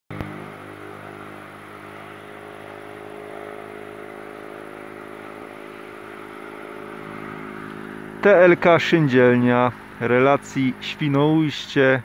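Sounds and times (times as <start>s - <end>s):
outdoor background noise: 0.1s - 12.0s
steady mechanical drone: 0.1s - 12.0s.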